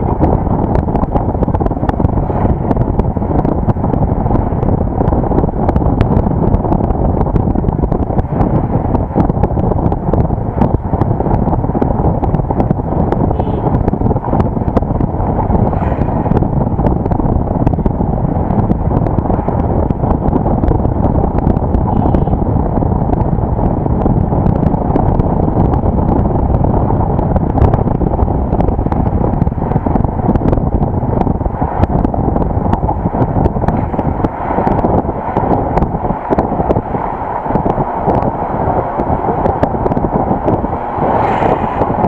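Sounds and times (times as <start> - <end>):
road and engine rumble: 0.0 - 42.0
wind buffeting microphone: 0.0 - 42.0.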